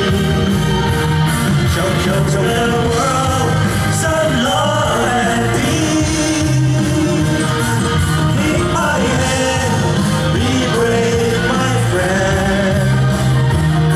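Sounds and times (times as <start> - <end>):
live song over loudspeakers: 0.0 - 13.9.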